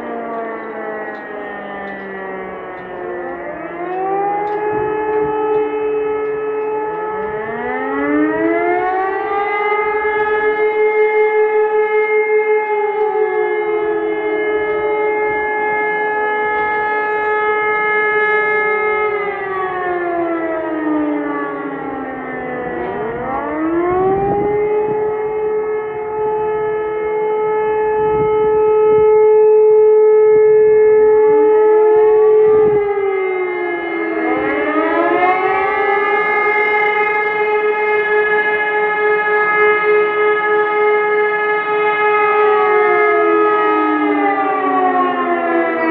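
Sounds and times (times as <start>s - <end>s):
civil defence sirens winding: 0.0s - 45.9s.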